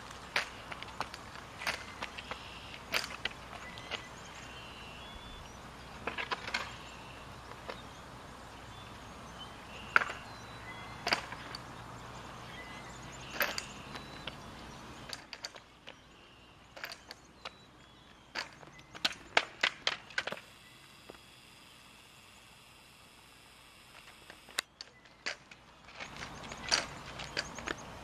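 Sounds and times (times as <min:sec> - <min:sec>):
quiet outdoor background: 0:00.0 - 0:28.0.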